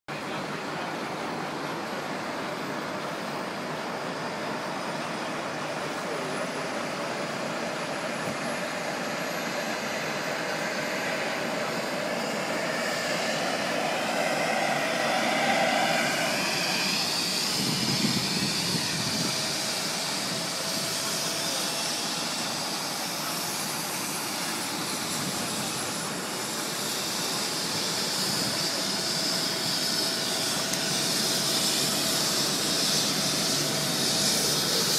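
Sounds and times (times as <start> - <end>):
heavy vehicle engines: 0.1 - 34.9
helicopter turbine whine: 0.1 - 34.9
machinery idling roar: 0.1 - 34.9.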